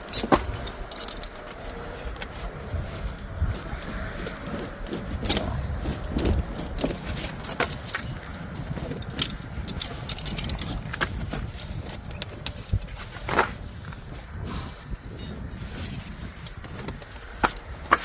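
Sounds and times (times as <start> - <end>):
metal chain clank: 0.0 - 1.6, 3.2 - 13.4, 15.1 - 18.0
tire chains clinking: 0.0 - 18.0.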